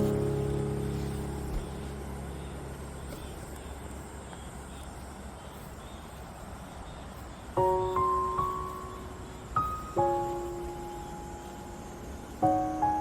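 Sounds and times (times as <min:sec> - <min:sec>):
low piano notes: 0:00.0 - 0:05.9, 0:07.4 - 0:13.0.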